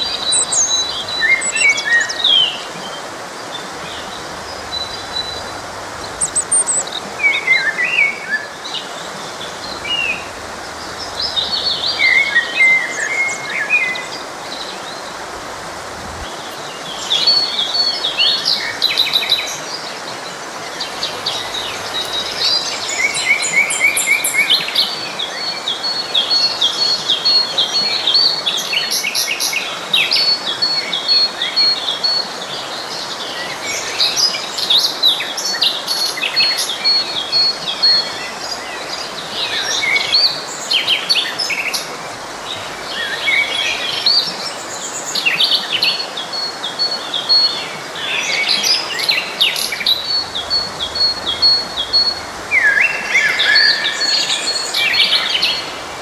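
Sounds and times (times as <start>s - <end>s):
flowing stream: 0.0s - 56.0s
songbirds singing and chirping: 0.0s - 56.0s.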